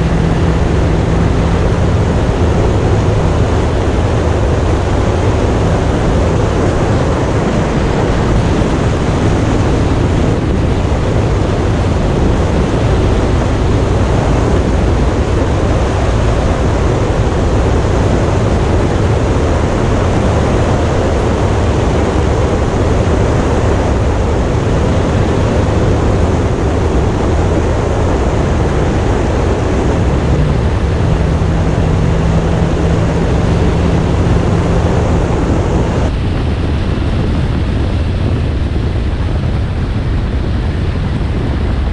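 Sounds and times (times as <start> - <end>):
motorcycle engine rumble: 0.0 - 41.9
wind noise on microphone: 0.0 - 41.9.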